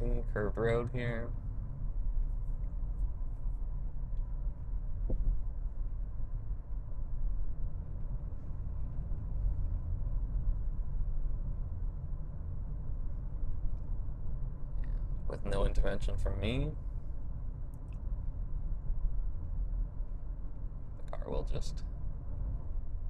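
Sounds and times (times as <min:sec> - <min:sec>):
car road rumble: 0:00.0 - 0:23.0.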